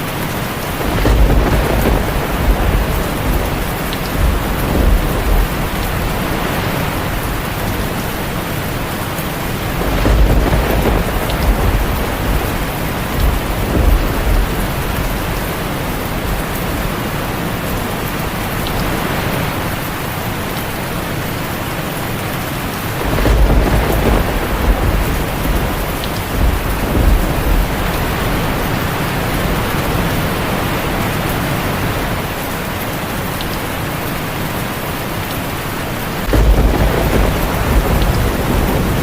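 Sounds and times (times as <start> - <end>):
thunder rumbling: 0.0 - 19.9, 22.7 - 32.4, 36.0 - 39.0
heavy rain on a tin roof: 0.0 - 39.0.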